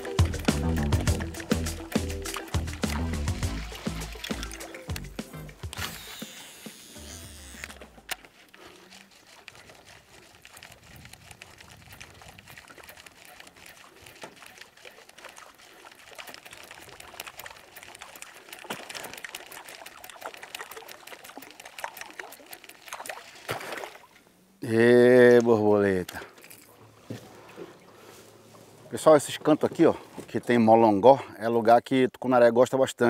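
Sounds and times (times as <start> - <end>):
water lapping against a boat: 0.0 - 24.6, 25.2 - 31.4.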